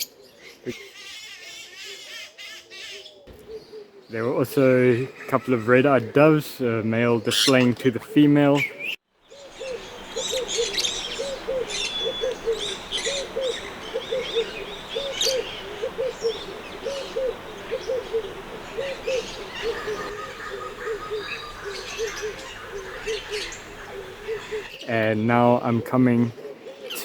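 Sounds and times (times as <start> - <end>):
small birds chirping: 0.0 - 27.0
dove cooing: 1.8 - 6.1, 7.9 - 24.8, 25.6 - 27.0.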